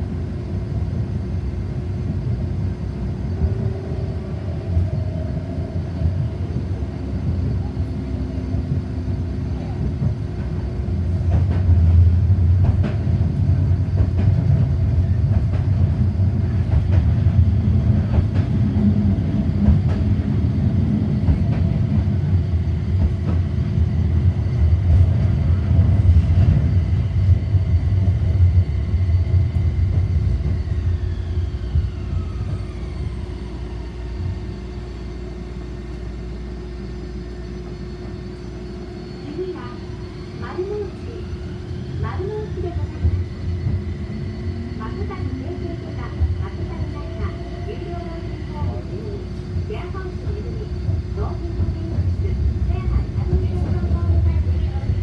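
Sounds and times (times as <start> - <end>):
tram wheels rumbling: 0.0 - 55.0.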